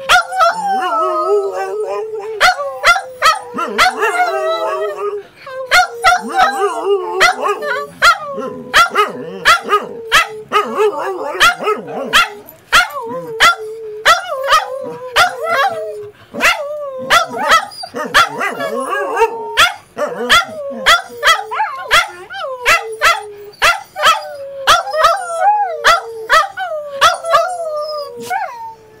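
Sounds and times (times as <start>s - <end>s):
dogs barking and yipping: 0.0s - 28.5s
dogs howling: 0.0s - 28.8s.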